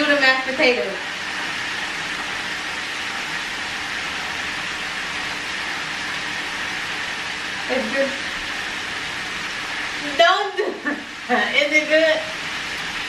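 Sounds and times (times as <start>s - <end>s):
even hiss: 0.0s - 13.0s.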